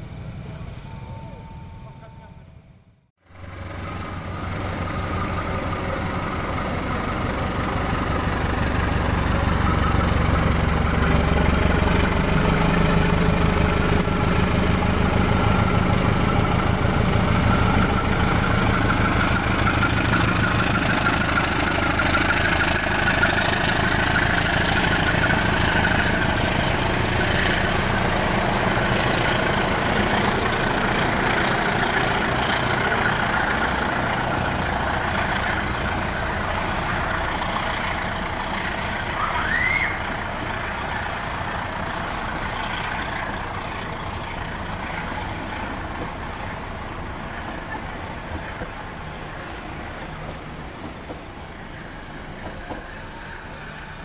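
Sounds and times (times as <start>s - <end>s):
train coaches rolling on rails: 0.0s - 2.7s, 3.3s - 54.0s
diesel locomotive engine: 0.0s - 54.0s.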